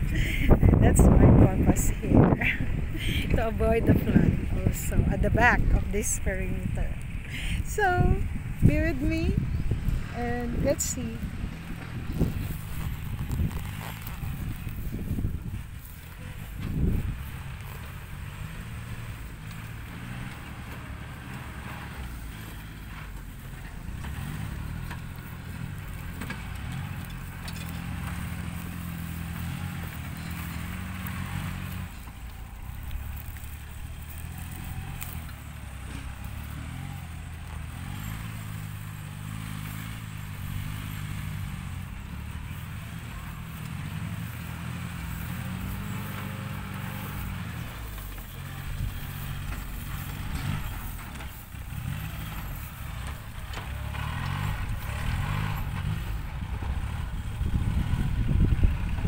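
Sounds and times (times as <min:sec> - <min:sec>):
tractor engine droning: 0:00.0 - 0:59.0.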